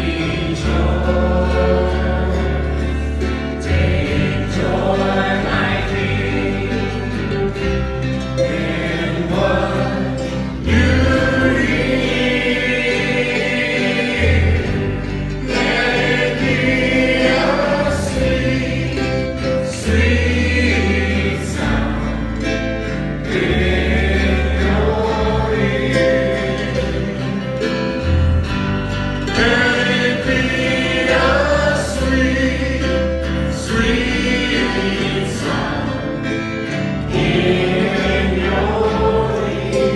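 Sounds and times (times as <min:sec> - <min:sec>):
group singing worship song: 0:00.0 - 0:39.9
instrumental backing with bass: 0:00.0 - 0:39.9.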